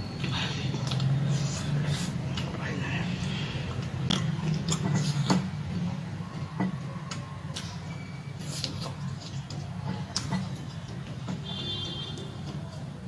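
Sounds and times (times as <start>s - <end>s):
eating clicks and smacks: 0.2s - 13.0s.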